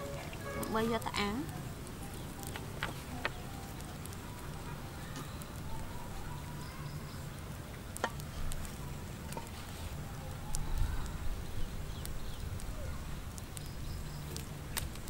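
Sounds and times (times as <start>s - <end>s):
skewer scraping and crackling: 0.0s - 15.0s.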